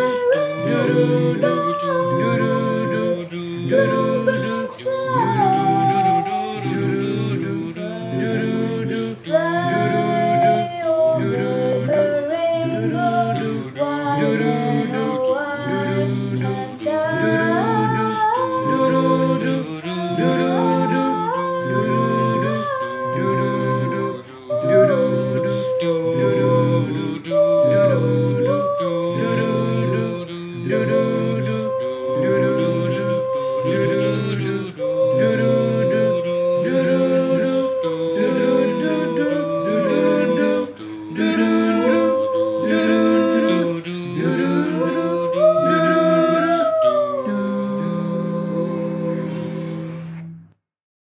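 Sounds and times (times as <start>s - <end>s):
a cappella group singing: 0.0s - 50.4s.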